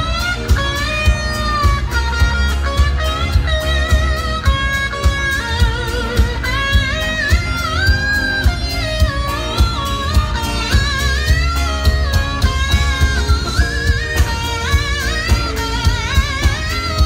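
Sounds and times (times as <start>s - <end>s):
funk band playing: 0.0s - 17.0s
pedal steel guitar lead: 0.0s - 17.0s.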